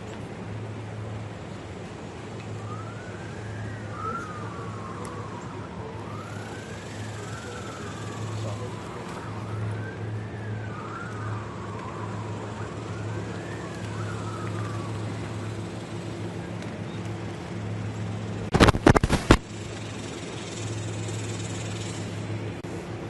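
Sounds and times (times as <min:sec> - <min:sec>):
low engine-like hum: 0:00.0 - 0:23.0
emergency siren wailing: 0:00.5 - 0:22.8.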